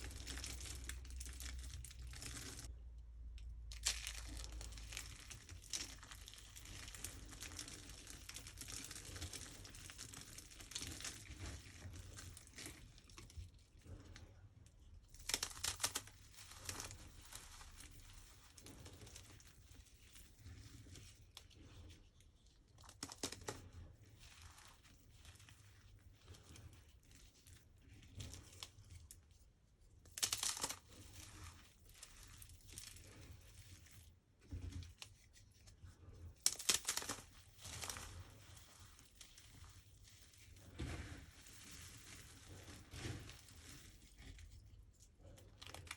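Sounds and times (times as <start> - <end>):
hands crushing dry soap: 0.0 - 45.9.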